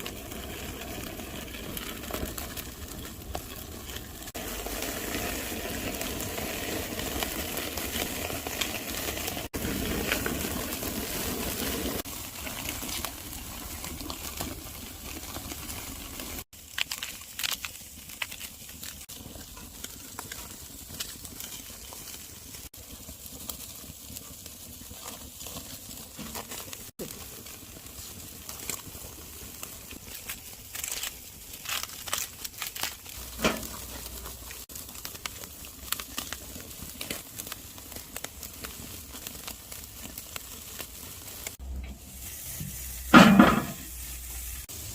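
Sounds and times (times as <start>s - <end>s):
crackles and pops: 0.0s - 44.9s
steaks sizzling over charcoal: 0.0s - 44.9s.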